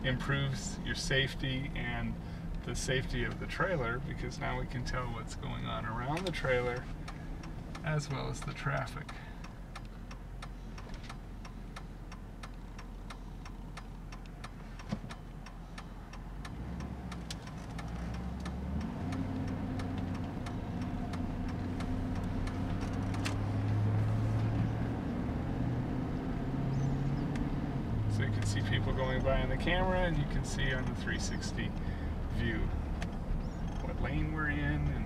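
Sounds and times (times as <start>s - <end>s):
road noise: 0.0s - 35.0s
turn signal relay ticking: 0.0s - 35.0s
vehicle engine: 0.0s - 35.0s.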